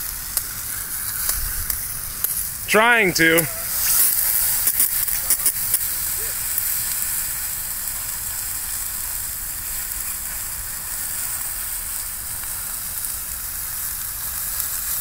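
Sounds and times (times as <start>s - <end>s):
water hissing and sizzling: 0.0s - 2.6s, 3.6s - 15.0s.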